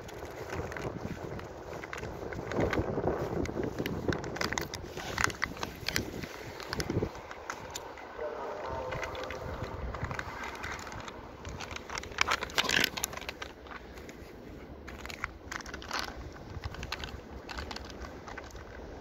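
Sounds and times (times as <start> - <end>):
crunching and scraping in snow: 0.0 - 19.0.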